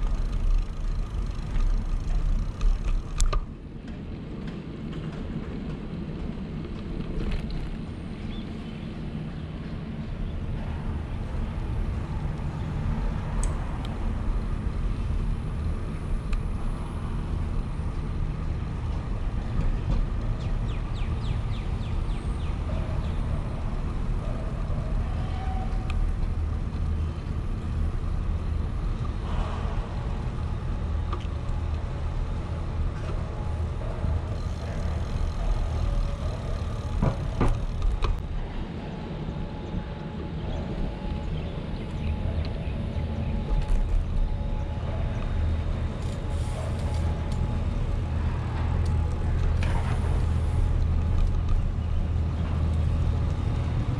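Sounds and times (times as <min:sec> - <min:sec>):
bicycle riding rumble: 0:00.0 - 0:53.9.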